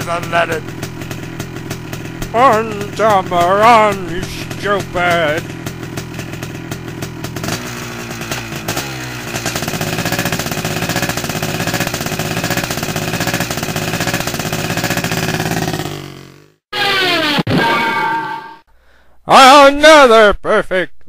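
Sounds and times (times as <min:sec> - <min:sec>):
motor engine revving: 0:00.0 - 0:17.2.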